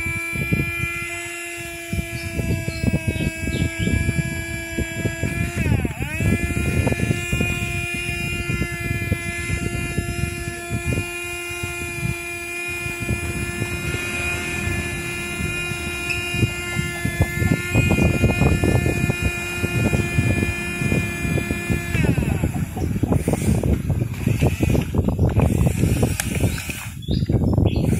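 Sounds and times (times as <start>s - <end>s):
electric motors whining: 0.0s - 27.9s.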